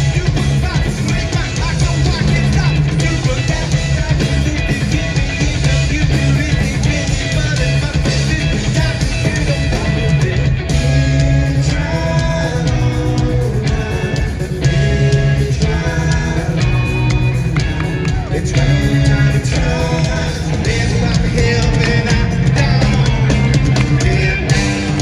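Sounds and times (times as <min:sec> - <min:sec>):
live rock band playing loud: 0:00.0 - 0:25.0
male lead vocal: 0:00.0 - 0:25.0.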